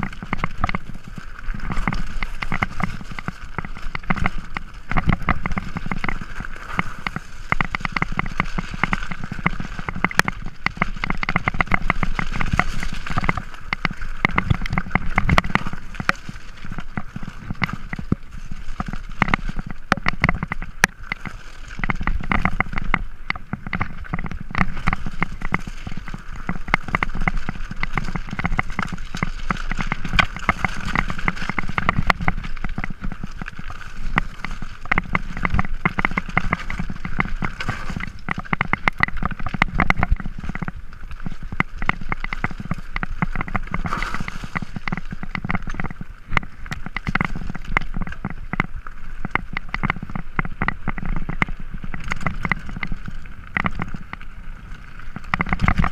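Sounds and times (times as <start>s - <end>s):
bike rattling: 0.0s - 55.9s
bike tyres on loose stones: 0.0s - 55.9s.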